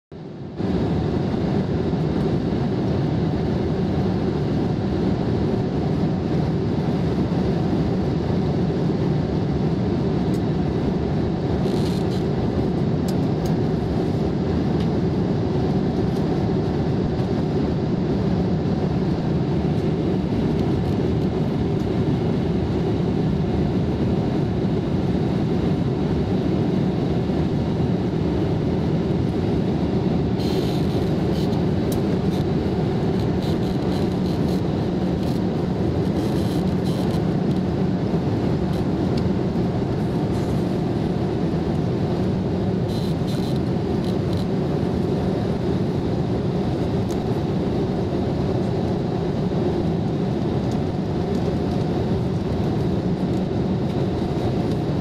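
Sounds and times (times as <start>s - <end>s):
airliner cabin engine rush: 0.1s - 55.0s.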